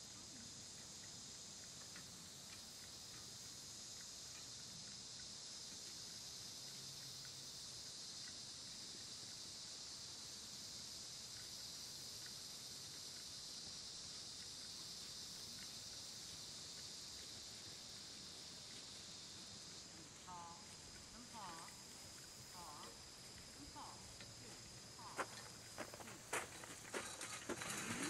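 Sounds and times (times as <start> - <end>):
faint ticks: 0.0 - 28.0
insects buzzing: 0.0 - 28.0.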